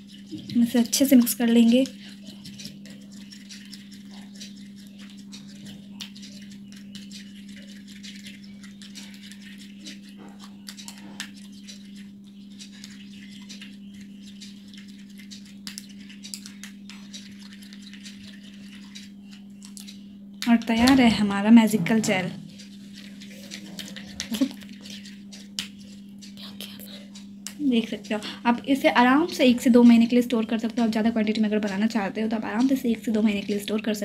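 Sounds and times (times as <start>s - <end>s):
spoon stirring sticky gel: 0.0s - 34.0s
steady low hum: 0.0s - 34.0s.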